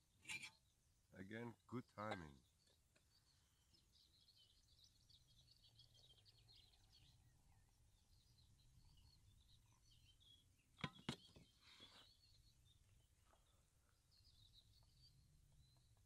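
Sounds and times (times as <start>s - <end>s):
faint birdsong chirps: 0.0s - 16.0s
low hum of outdoor ambience: 0.0s - 16.0s.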